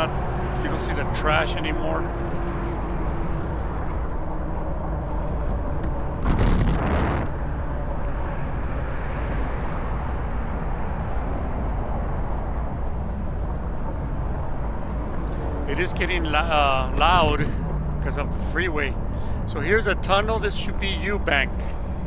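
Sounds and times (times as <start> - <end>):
freeway traffic rumble: 0.0 - 22.0
loud vehicle rush: 0.0 - 22.0.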